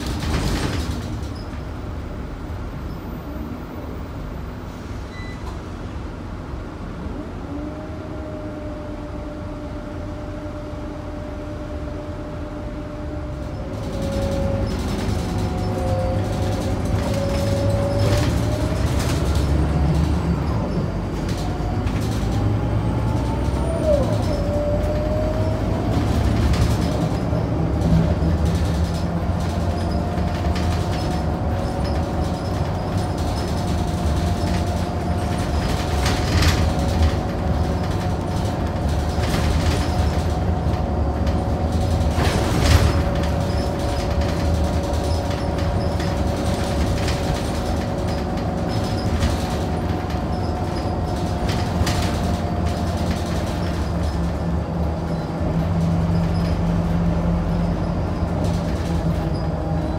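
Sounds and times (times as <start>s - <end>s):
bus engine hum and whine: 0.0s - 59.9s.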